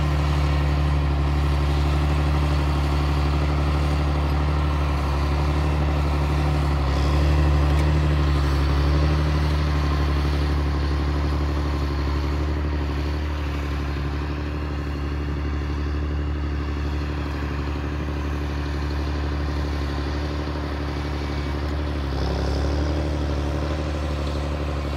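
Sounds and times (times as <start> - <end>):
engine running: 0.0 - 24.9.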